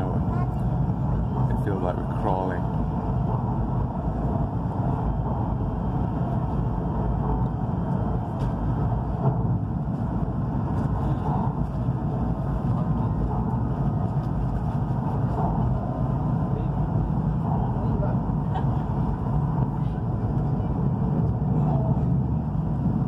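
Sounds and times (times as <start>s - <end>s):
train rumbling inside carriage: 0.0s - 23.0s.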